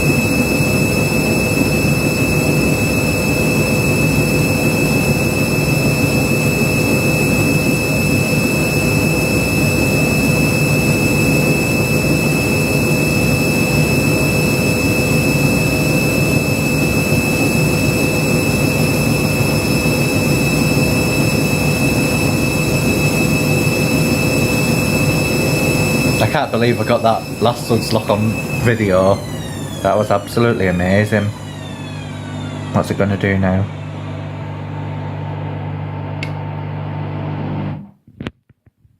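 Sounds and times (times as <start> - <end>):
washing machine spinning: 0.0 - 37.8.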